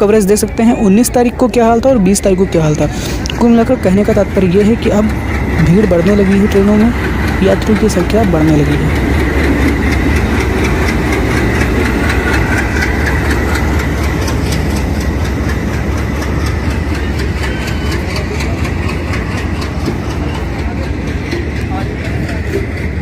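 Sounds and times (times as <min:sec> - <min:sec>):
locomotive engine rumbling: 0:00.0 - 0:23.0
fast regular ticking: 0:01.0 - 0:23.0.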